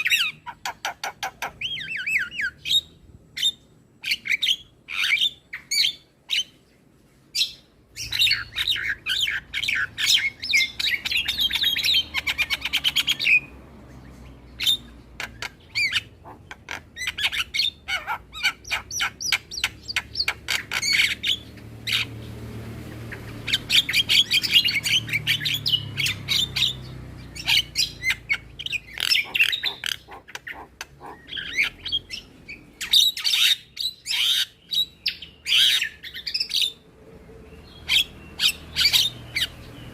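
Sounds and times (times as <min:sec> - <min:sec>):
bird chattering and squawking: 0:00.0 - 0:06.5, 0:08.0 - 0:13.5, 0:14.2 - 0:36.8, 0:37.8 - 0:39.7.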